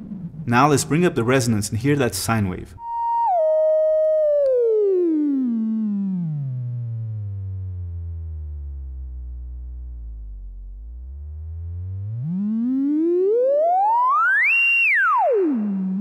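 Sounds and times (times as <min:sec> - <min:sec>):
synth filter sine tone gliding: 0:00.0 - 0:01.9, 0:02.8 - 0:16.0.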